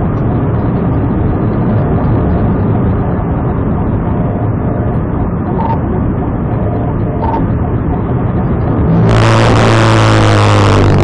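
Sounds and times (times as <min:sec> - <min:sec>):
car engine and road noise: 0:00.0 - 0:11.0
hissing with low hum: 0:00.0 - 0:11.0.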